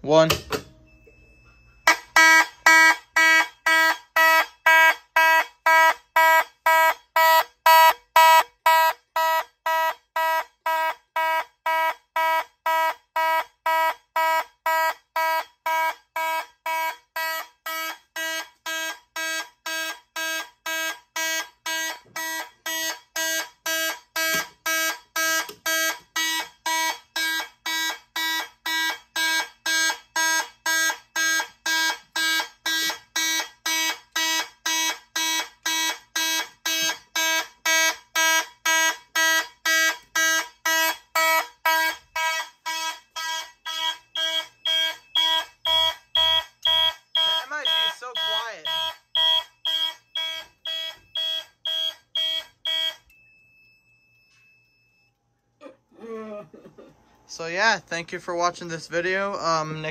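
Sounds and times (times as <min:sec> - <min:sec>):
fire alarm horns pulsing: 0:01.5 - 0:53.1.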